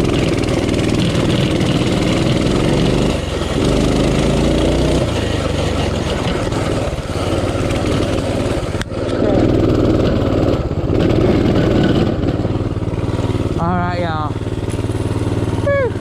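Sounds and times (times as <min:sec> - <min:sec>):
small motorbike engine revving: 0:00.0 - 0:16.0.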